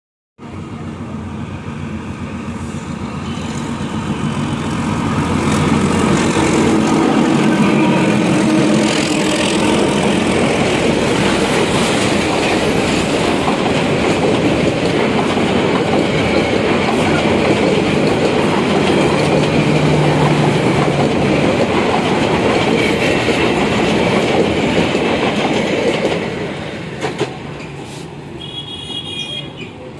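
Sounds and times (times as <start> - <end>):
train wheels clattering over rails: 3.2 - 27.9.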